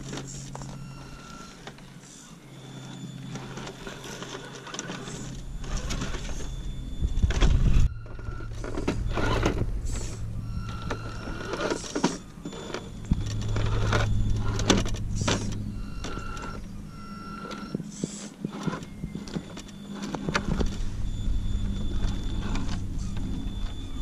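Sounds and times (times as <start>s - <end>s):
electric motor whirring: 0.0s - 24.0s.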